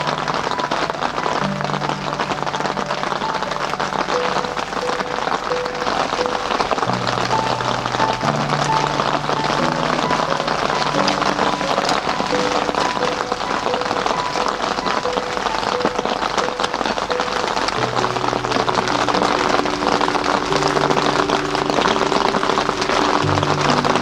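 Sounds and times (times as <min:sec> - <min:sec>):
slow soft background music: 0:00.0 - 0:24.0
steady rain falling: 0:00.0 - 0:24.0.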